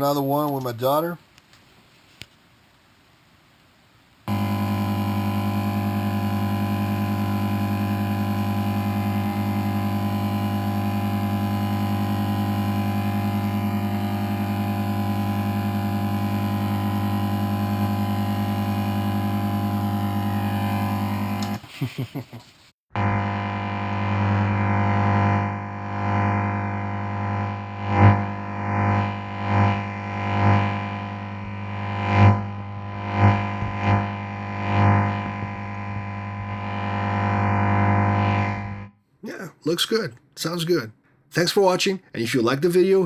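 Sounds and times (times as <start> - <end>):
lightsaber hum: 4.3 - 21.6, 23.0 - 40.8.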